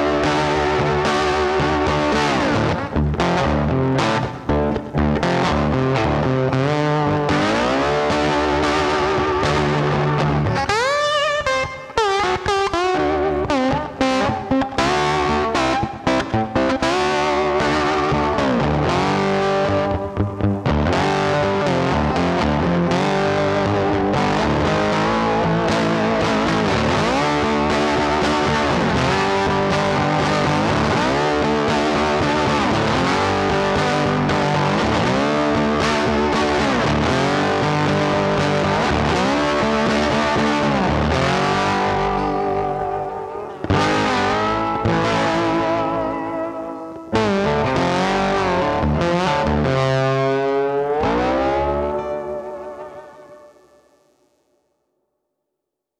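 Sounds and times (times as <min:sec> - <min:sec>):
distorted electric guitar music: 0:00.0 - 0:54.6.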